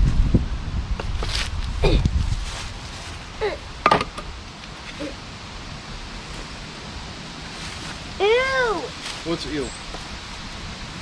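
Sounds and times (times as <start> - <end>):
faint background noise: 0.8 - 11.0.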